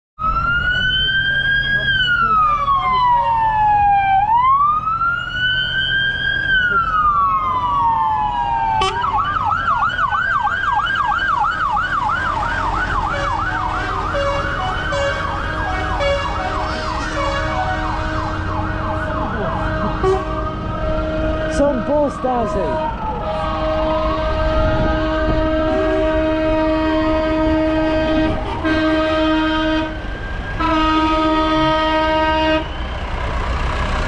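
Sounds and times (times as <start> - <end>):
siren wailing and yelping: 0.2 - 32.1
low engine rumble: 0.4 - 34.0.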